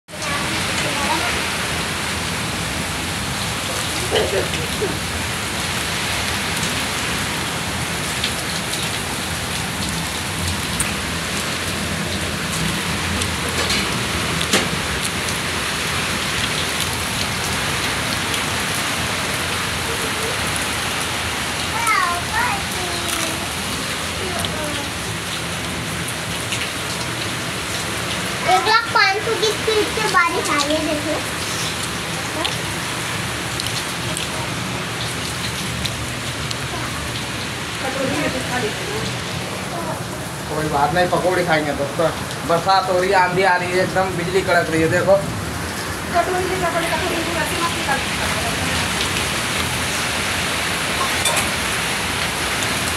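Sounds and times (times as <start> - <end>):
steady rain on rooftops: 0.0 - 52.9.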